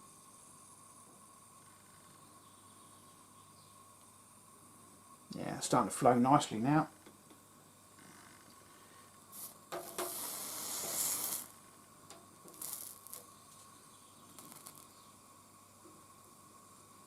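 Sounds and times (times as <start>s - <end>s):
solder sizzling on hot copper: 0.0s - 17.0s.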